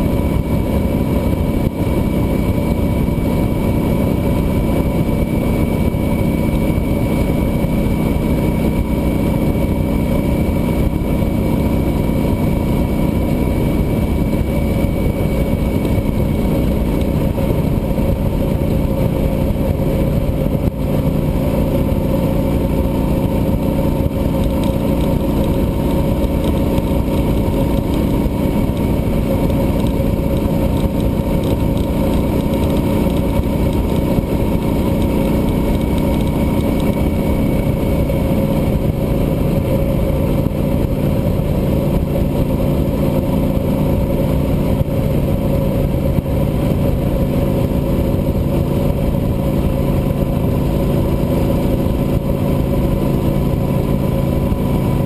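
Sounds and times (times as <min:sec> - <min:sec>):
motorcycle engine cruising: 0:00.0 - 0:55.0
road and wind noise: 0:00.0 - 0:55.0.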